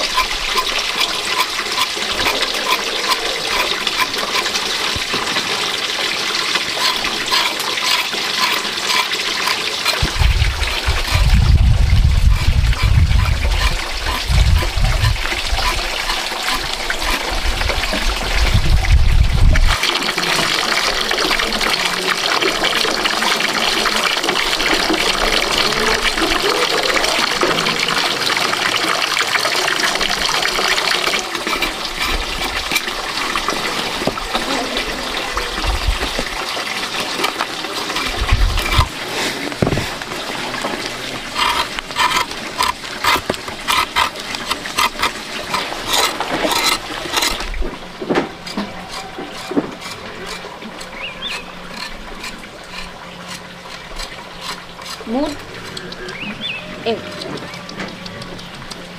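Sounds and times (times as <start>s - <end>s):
water running and splashing: 0.0s - 58.9s.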